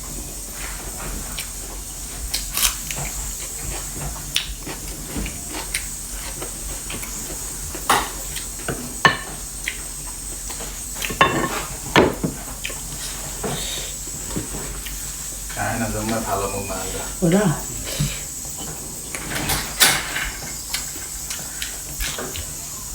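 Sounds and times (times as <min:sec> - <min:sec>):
steady high hiss: 0:00.0 - 0:22.9
chewing: 0:00.5 - 0:16.2, 0:16.9 - 0:22.9.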